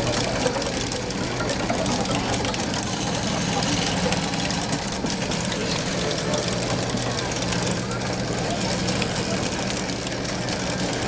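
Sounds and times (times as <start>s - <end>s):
lathe rumbling: 0.0s - 11.0s.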